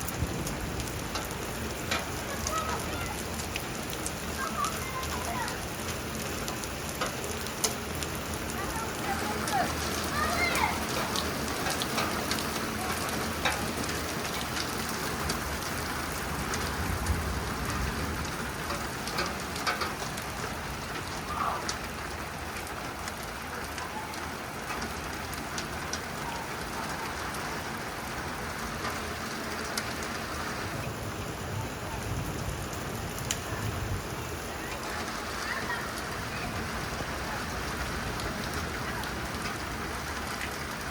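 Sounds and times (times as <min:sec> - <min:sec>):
hail falling: 0:00.0 - 0:40.9
hailstones ticking on hard surfaces: 0:00.0 - 0:40.9.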